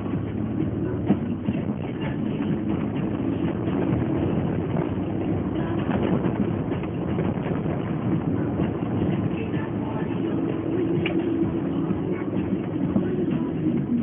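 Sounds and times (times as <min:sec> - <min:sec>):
car engine and tyre noise: 0:00.0 - 0:14.0
car knocks and rattles: 0:00.0 - 0:14.0.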